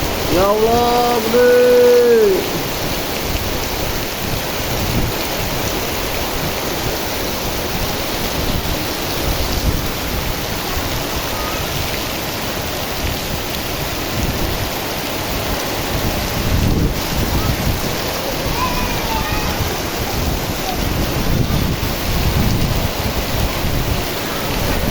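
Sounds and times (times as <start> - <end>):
torrential rain hissing: 0.0 - 24.9
wind buffeting microphone: 2.4 - 24.9.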